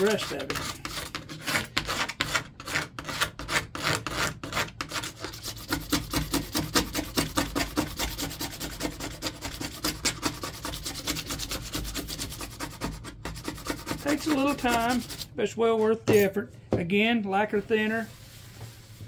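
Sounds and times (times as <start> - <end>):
blade scraping fiberglass surface: 0.0 - 15.3.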